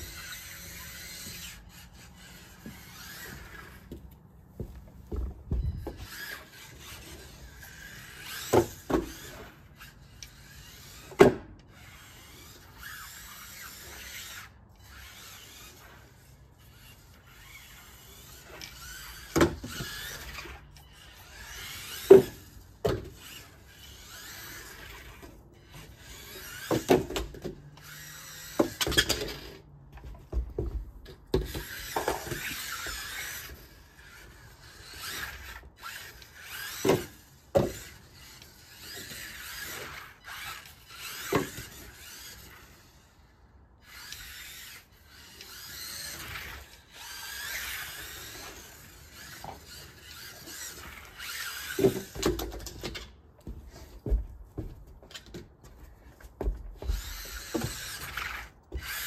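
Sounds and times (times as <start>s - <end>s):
small electric motor whining: 0.0s - 55.2s, 55.8s - 59.0s.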